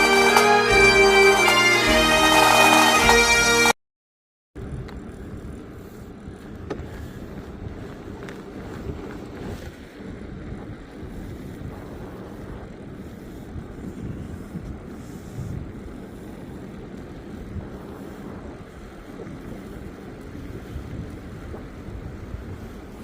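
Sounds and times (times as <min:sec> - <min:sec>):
vehicle rumble: 0:04.6 - 0:23.0.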